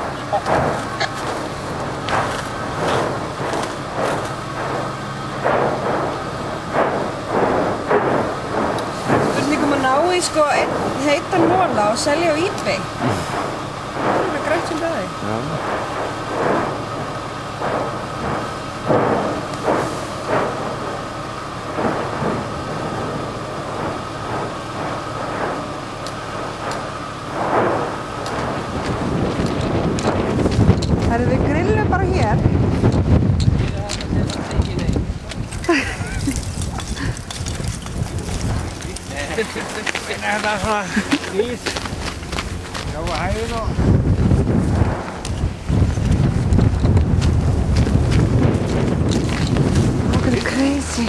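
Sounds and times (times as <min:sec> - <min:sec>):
lava fountains roaring: 0:00.0 - 0:51.0
sharp crackles: 0:00.0 - 0:51.0.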